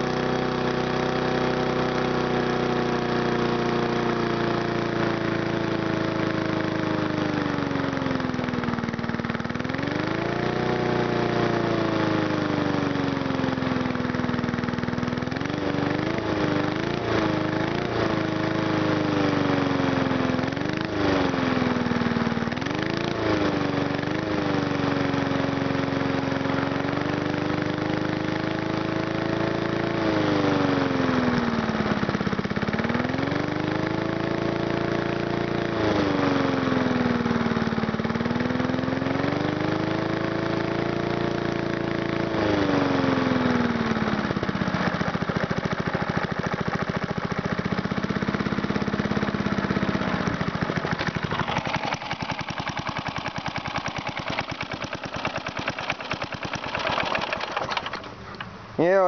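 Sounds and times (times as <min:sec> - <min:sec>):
lawnmower engine running: 0:00.0 - 0:59.0.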